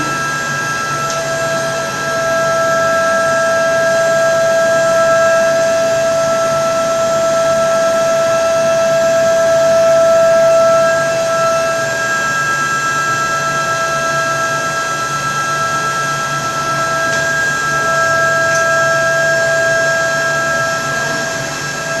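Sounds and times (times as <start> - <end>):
cnc spindle high-pitched whine: 0.0 - 22.0.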